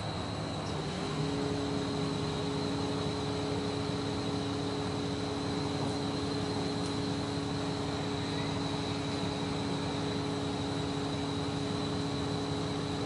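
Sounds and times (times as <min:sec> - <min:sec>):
crane engine and hydraulics: 0:00.0 - 0:13.0.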